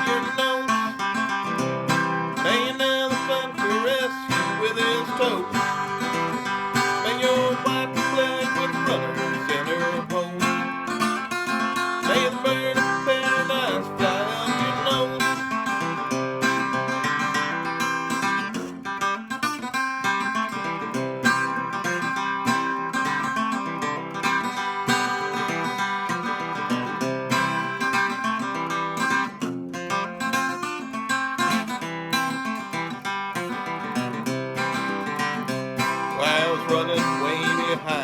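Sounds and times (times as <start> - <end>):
stringed instrument strummed: 0.0 - 38.0.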